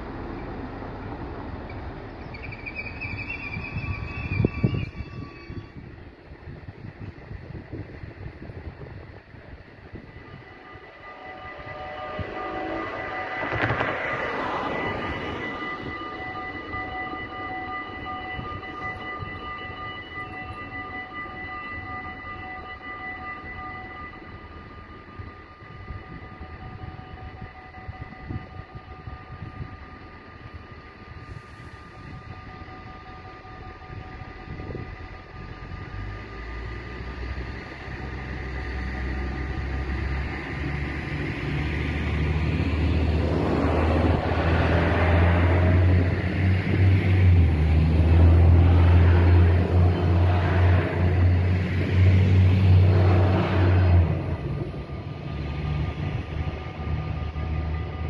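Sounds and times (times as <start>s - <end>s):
diesel train engine hum: 0.0s - 58.0s
wheels rushing on rails: 0.0s - 58.0s
level crossing warning bells: 9.5s - 58.0s.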